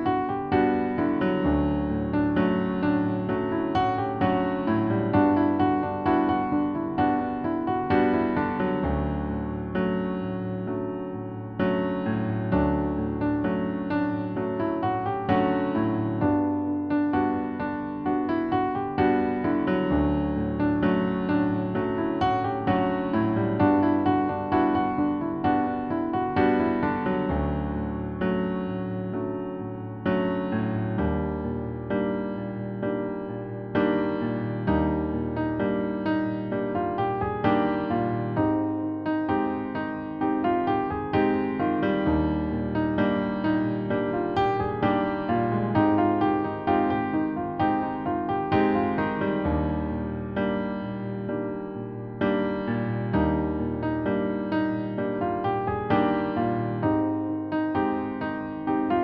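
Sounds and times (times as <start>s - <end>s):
piano chords: 0.0s - 59.0s.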